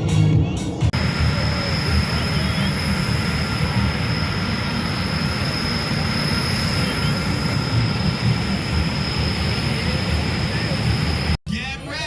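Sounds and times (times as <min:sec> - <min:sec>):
aircraft engine running: 0:00.6 - 0:11.4.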